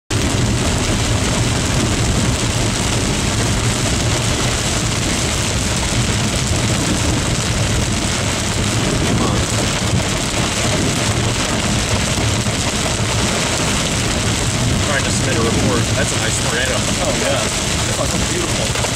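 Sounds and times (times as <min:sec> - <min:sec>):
road noise: 0:00.1 - 0:18.9
steady rain: 0:00.1 - 0:18.9
vehicle engine drone: 0:00.1 - 0:18.9
wind noise: 0:00.1 - 0:18.9.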